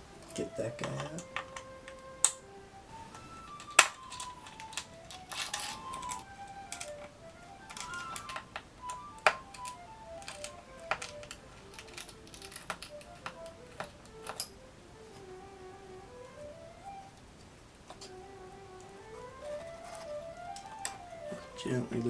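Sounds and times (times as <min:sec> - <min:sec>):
background music melody: 0:00.0 - 0:22.0.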